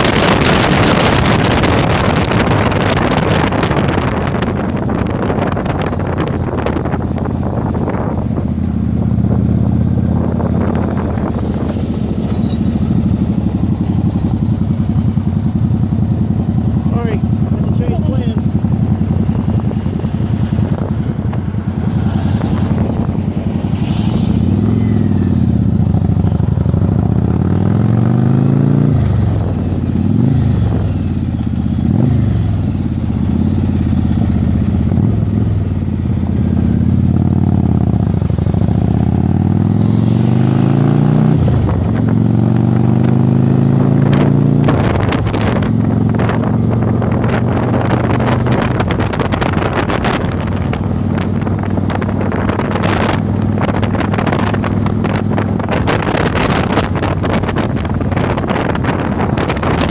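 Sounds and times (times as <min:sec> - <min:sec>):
motorcycle engine revving: 0:00.0 - 0:59.9
wind buffeting microphone: 0:00.0 - 0:59.9.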